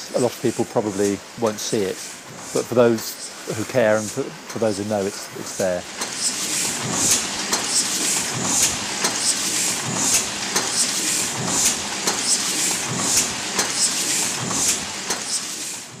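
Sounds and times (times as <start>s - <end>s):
printing press clatter: 0.2s - 16.0s.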